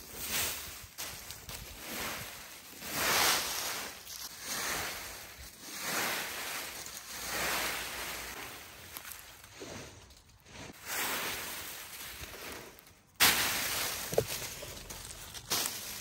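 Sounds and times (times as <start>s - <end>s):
broom sweeping debris: 0.0s - 16.0s.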